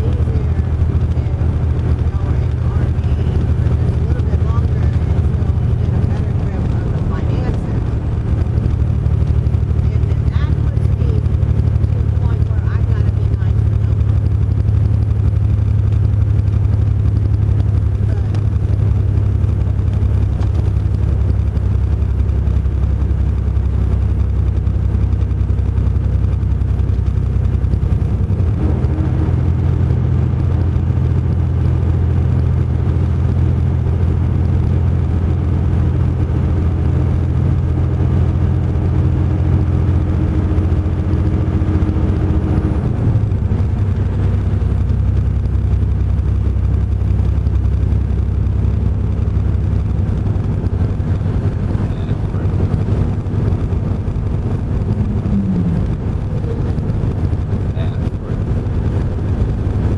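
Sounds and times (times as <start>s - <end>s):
heavy truck engine droning: 0.0s - 59.9s.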